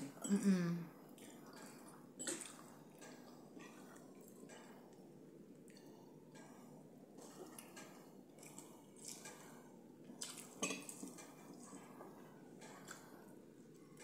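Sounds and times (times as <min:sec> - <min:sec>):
quiet chewing: 0:01.1 - 0:13.3.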